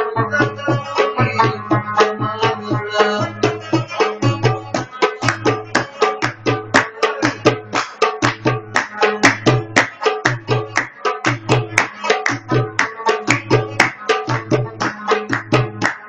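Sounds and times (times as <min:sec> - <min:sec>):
rubab fast plucked strokes: 0:00.0 - 0:16.0.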